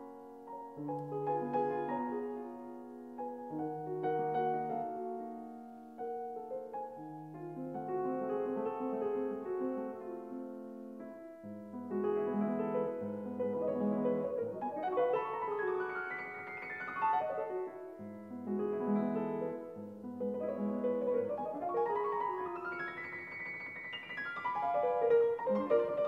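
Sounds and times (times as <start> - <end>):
solo classical piano: 0.0 - 26.0.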